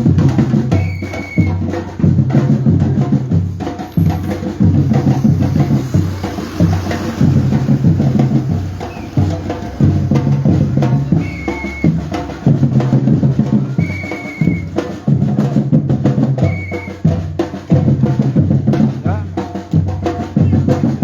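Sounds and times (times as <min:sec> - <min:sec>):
group of drums playing: 0:00.0 - 0:21.0.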